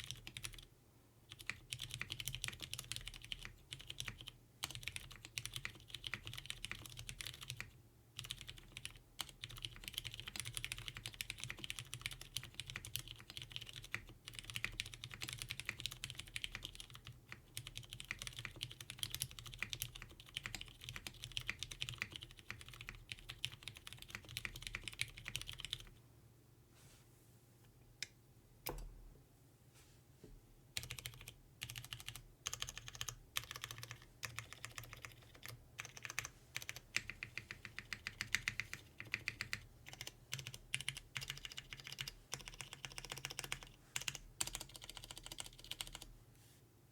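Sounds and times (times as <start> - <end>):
mechanical keyboard typing: 0.0 - 0.7, 1.3 - 26.0, 30.8 - 46.1.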